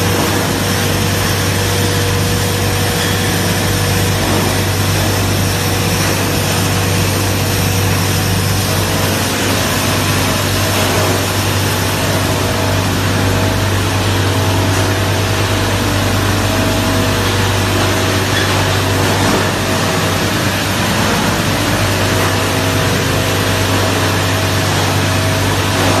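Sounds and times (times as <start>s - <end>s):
industrial machine running: 0.0s - 26.0s.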